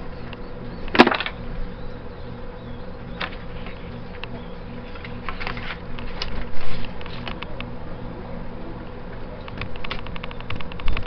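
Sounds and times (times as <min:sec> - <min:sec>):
low buzzing hum: 0:00.0 - 0:11.0.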